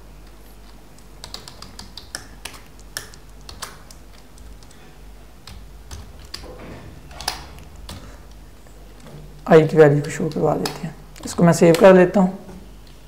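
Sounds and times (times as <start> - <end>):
keyboard typing clicks: 0.6 - 4.8, 5.4 - 12.0.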